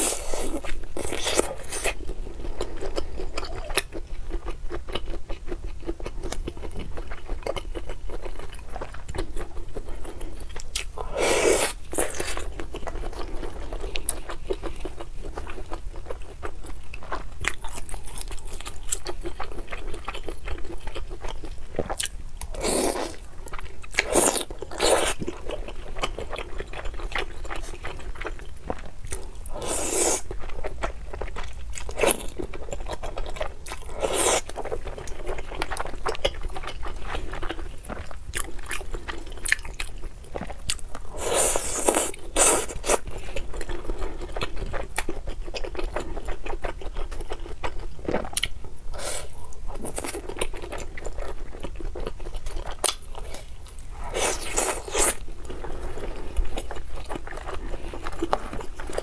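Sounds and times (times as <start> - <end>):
chewing soft food: 0.0 - 59.0.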